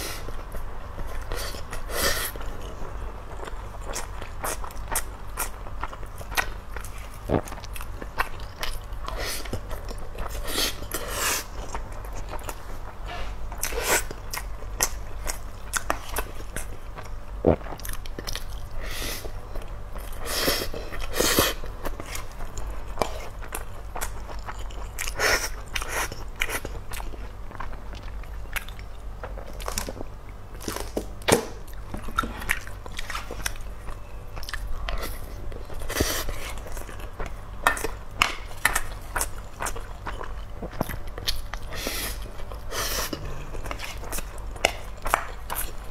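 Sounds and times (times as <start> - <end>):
chewing: 0.2 - 45.9.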